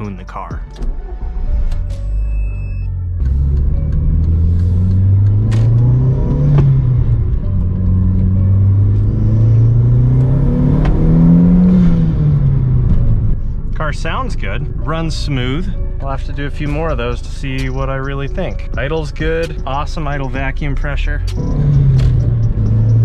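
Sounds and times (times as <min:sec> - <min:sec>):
car engine accelerating: 0:01.2 - 0:23.0.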